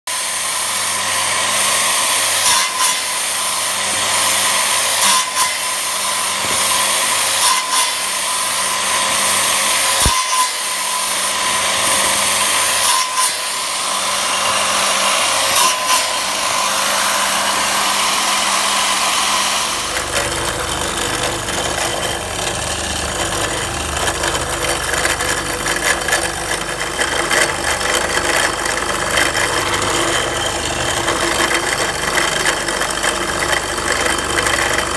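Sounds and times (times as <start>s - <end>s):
circular saw cutting wood: 0.1s - 34.9s
drill press boring into wood: 0.1s - 34.9s.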